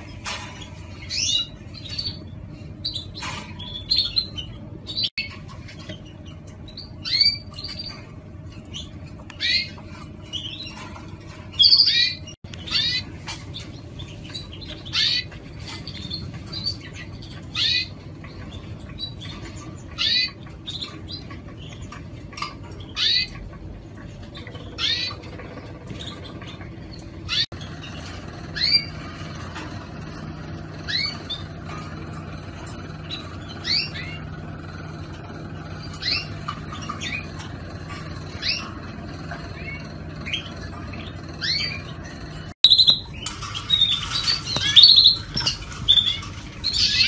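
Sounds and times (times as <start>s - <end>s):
canary chirping: 0.0s - 47.0s
steady low hum: 0.0s - 47.0s.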